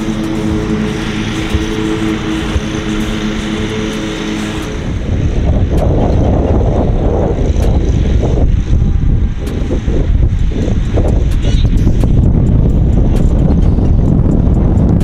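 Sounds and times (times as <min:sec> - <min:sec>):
motor humming: 0:00.0 - 0:15.0
wind buffeting microphone: 0:00.0 - 0:15.0.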